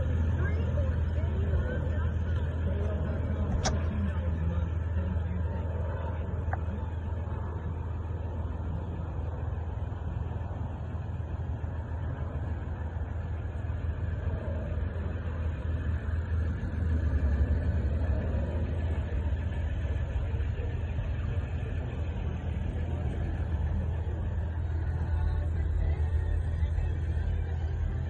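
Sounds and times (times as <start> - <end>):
pickup truck engine rumbling: 0.0 - 28.0.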